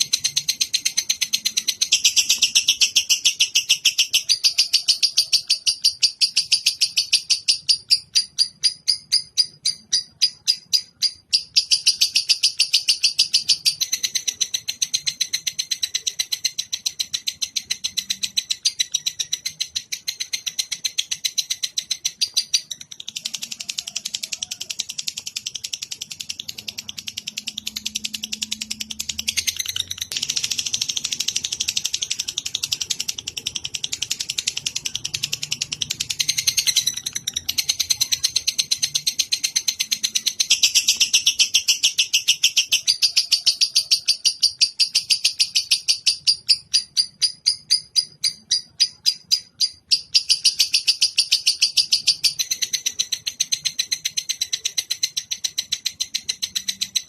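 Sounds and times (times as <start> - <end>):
songbird chirping and trilling: 0.0 - 57.0.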